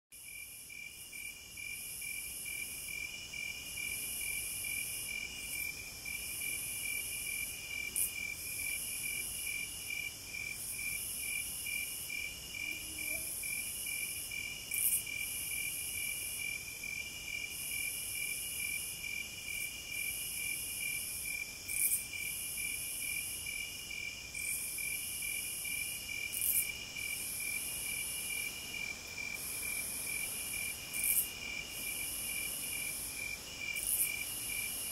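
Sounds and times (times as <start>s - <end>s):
insects trilling: 0.3s - 34.9s.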